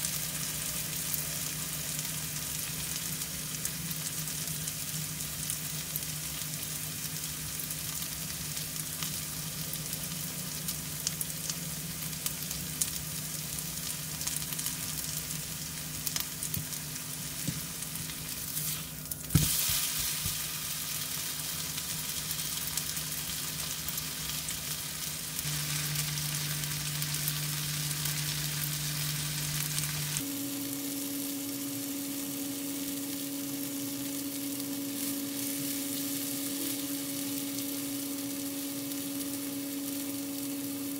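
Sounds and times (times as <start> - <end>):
low steady hum: 0.0 - 40.9
potato pancake sizzling in oil: 0.0 - 40.9.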